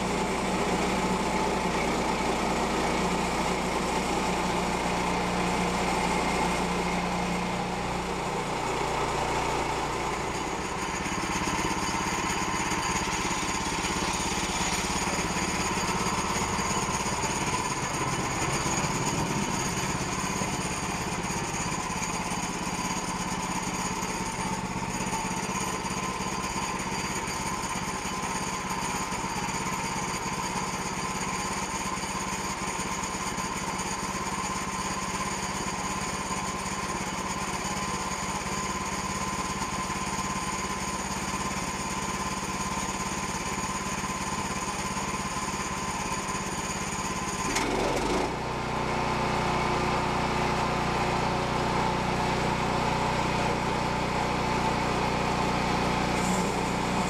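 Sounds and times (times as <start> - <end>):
gasoline engine running: 0.0 - 57.0.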